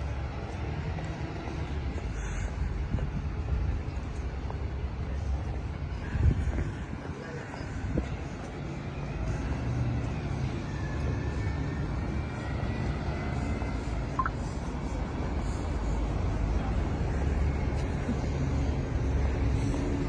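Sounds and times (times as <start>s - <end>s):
low rumble of road traffic: 0.0s - 20.0s.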